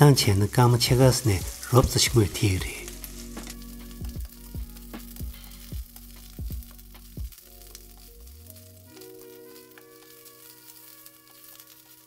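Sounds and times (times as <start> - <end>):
cabbage sizzling in a wok: 0.0 - 12.0
background music with steady beat: 0.8 - 12.0.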